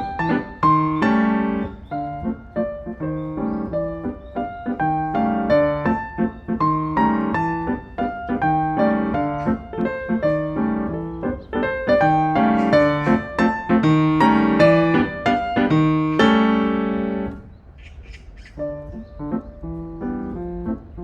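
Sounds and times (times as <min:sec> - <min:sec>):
piano music: 0:00.0 - 0:17.6, 0:18.5 - 0:21.0.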